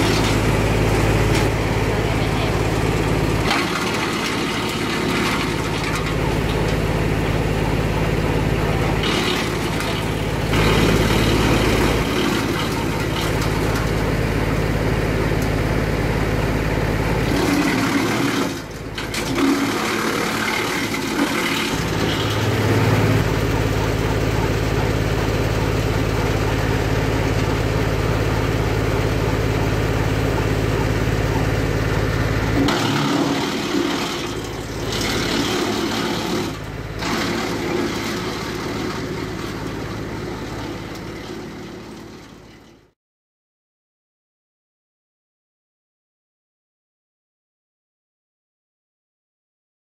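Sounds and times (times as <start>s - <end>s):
wood chipper chipping branches: 0.0s - 42.9s
tractor engine running: 0.0s - 43.0s.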